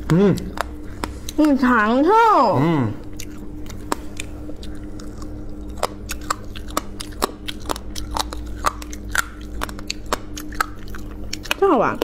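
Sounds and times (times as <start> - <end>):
crunching and chewing: 0.0 - 1.9, 2.6 - 12.0
steady low hum: 0.0 - 12.0.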